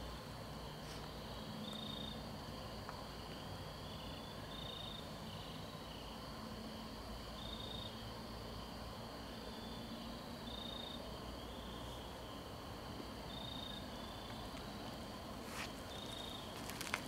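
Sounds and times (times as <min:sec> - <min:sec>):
crickets chirping: 0:00.0 - 0:17.0
steady low hiss: 0:00.0 - 0:17.0.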